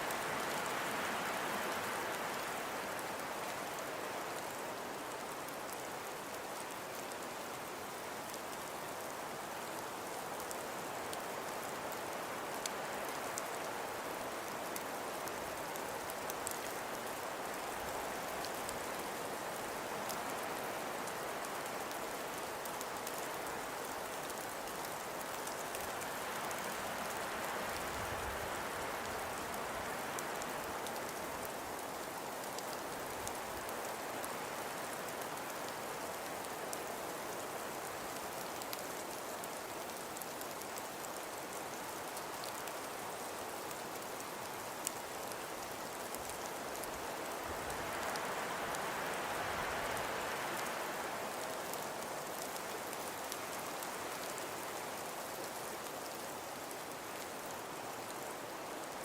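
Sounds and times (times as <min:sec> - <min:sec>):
snowfall hiss: 0:00.0 - 0:59.0.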